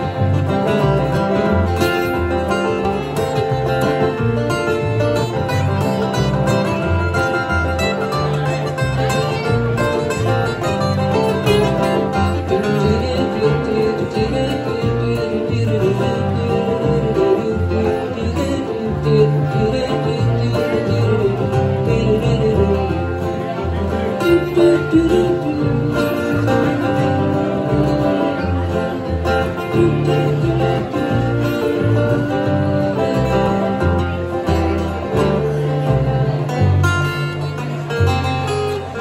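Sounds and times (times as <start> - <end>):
acoustic guitars strumming: 0.0 - 39.0
upright bass plucking: 0.0 - 39.0.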